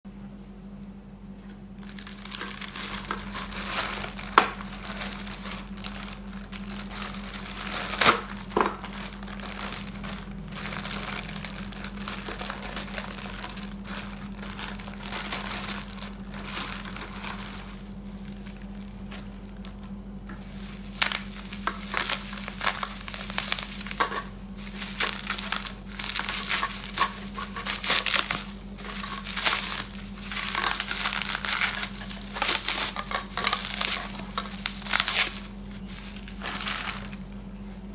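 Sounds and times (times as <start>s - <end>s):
steady low hum: 0.1s - 37.9s
rustling and crinkling handling: 0.4s - 37.9s.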